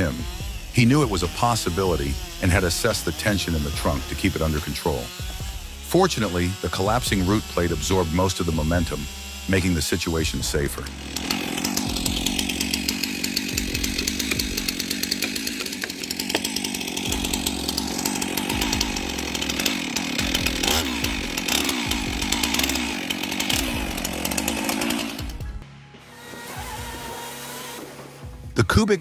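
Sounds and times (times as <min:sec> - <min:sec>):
chainsaw cutting wood: 0:00.0 - 0:28.6.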